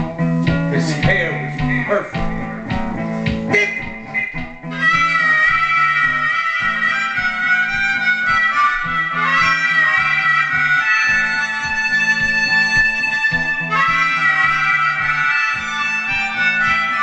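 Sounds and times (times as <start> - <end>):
amplified harmonica playing: 0.0 - 17.0
guitar backing with steady beat: 0.0 - 17.0.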